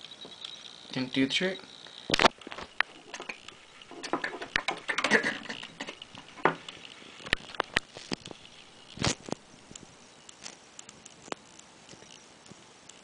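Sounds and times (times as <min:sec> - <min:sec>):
rustling: 0:02.0 - 0:12.8.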